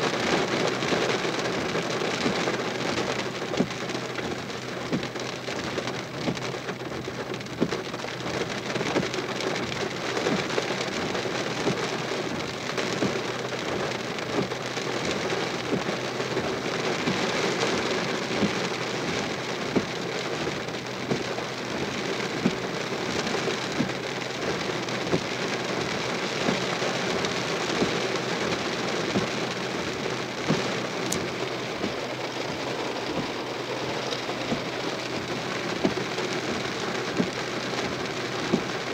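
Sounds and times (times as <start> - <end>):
rain on a car roof: 0.0 - 38.9.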